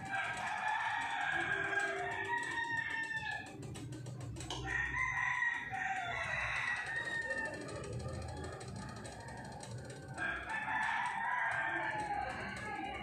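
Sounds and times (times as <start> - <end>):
roosters crowing: 0.0 - 13.0.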